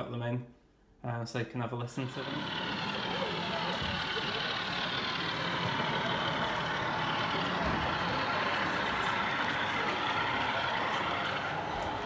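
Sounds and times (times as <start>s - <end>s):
model locomotive diesel engine drone: 1.9s - 12.0s.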